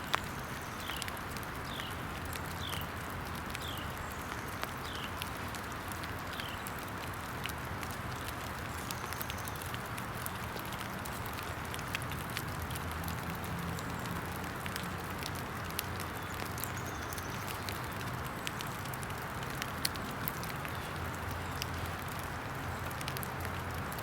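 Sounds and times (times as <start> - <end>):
campfire crackling: 0.0 - 24.0
rain hissing: 0.0 - 24.0.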